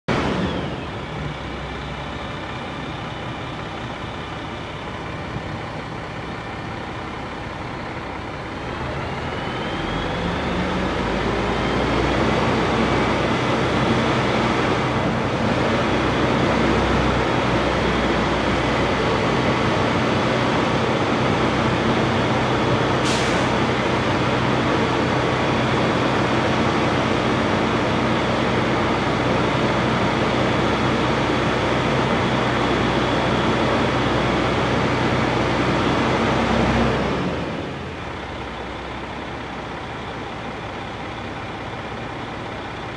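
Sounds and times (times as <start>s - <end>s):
truck engine running and revving: 0.1s - 42.9s.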